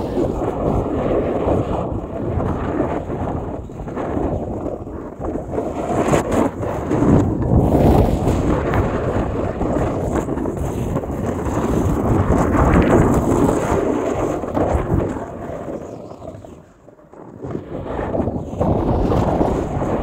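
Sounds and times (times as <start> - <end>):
wind buffeting microphone: 0.0 - 20.0
skis scraping on packed snow: 3.9 - 20.0.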